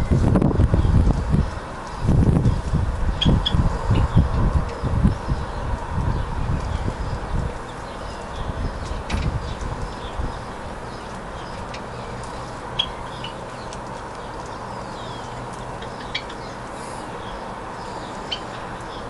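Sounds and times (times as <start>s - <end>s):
high bird chirps: 3.1s - 19.0s.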